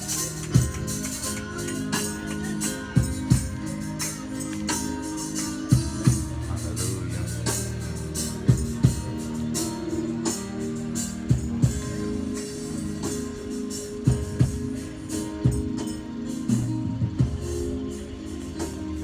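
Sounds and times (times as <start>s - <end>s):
drum hits: 0.0s - 17.6s
instrumental worship music: 0.0s - 19.0s.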